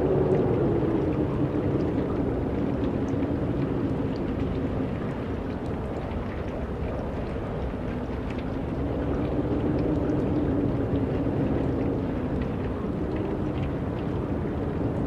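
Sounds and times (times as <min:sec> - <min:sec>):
wind rumbling: 0:00.0 - 0:15.0.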